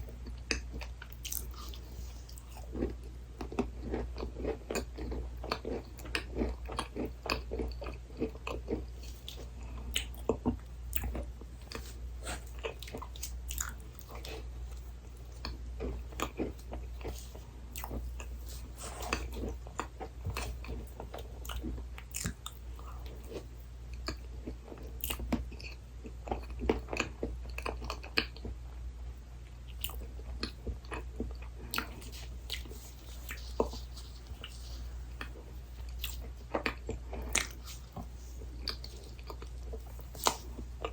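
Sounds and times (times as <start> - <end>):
chewing and crunching: 0.0 - 40.9
steady low hum: 0.0 - 40.9.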